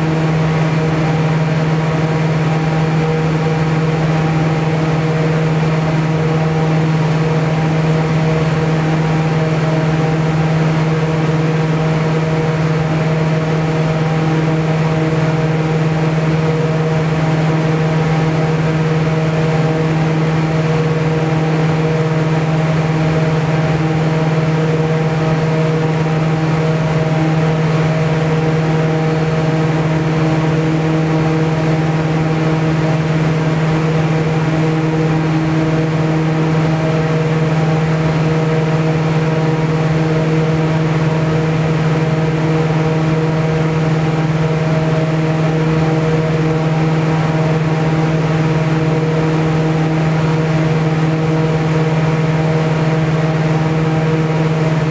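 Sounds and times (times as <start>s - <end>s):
large fan humming: 0.0s - 54.9s.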